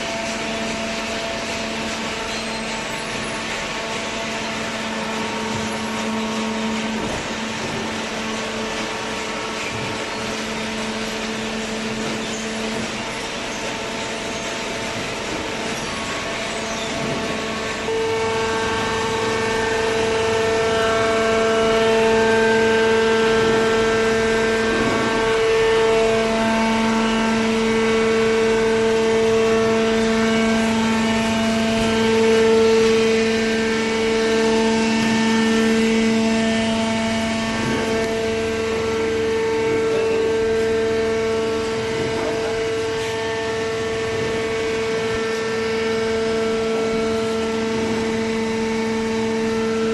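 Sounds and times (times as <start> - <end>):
hydraulic baler mechanical whine: 0.0 - 49.9.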